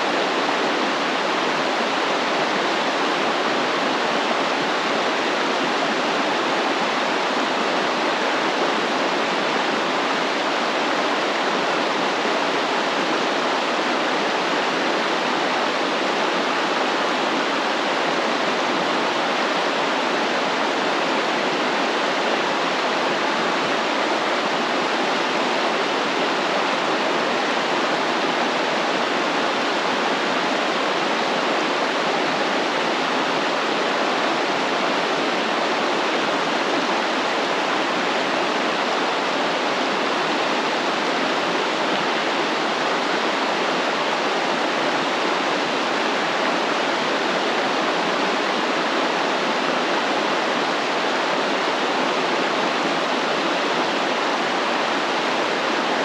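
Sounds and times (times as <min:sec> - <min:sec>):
stream water flowing and splashing: 0:00.0 - 0:56.0.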